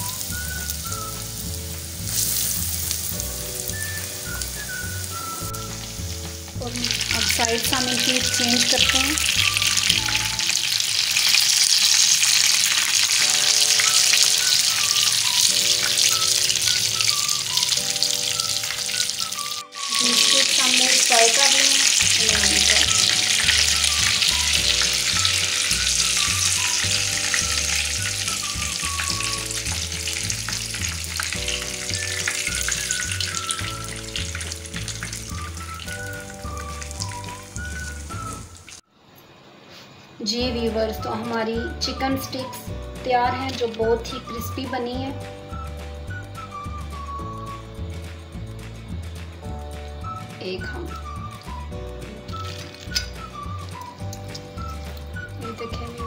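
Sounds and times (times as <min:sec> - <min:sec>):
background music with bass line: 0:00.0 - 0:10.6, 0:13.3 - 0:38.6, 0:41.7 - 0:56.0
hot oil sizzling: 0:00.0 - 0:38.9, 0:40.4 - 0:56.0.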